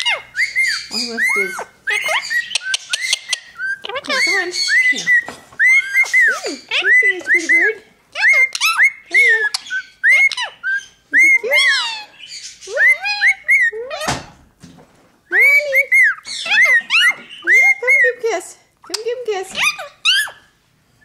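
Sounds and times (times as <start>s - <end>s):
parakeet chattering: 0.0s - 14.3s, 15.3s - 18.2s, 18.8s - 20.5s.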